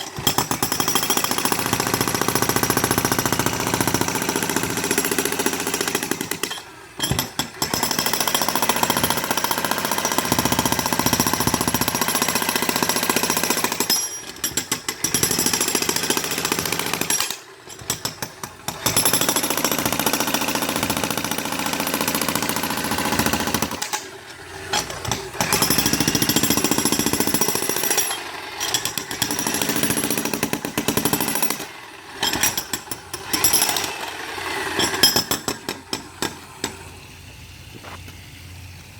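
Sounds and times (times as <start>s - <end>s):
demolition hammer chiselling concrete: 0.0s - 36.8s.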